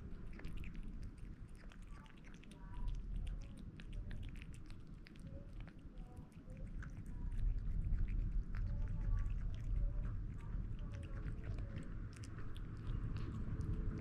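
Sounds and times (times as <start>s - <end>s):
kitten eating wet food: 0.0s - 14.0s.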